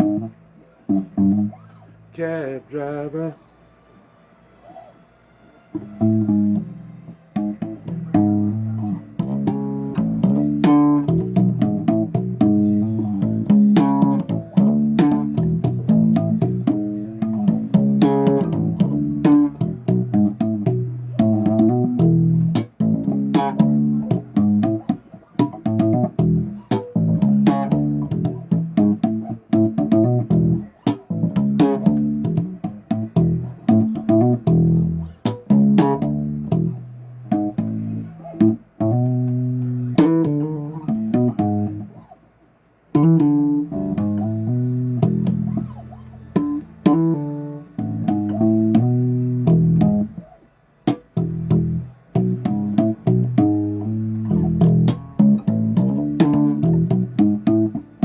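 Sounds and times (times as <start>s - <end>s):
bass guitar riff: 0.0s - 3.4s, 5.7s - 58.0s.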